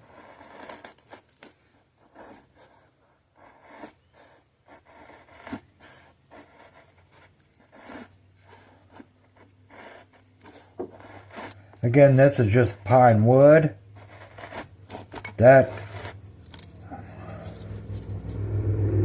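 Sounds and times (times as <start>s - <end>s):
knife scraping wood: 0.0s - 18.4s.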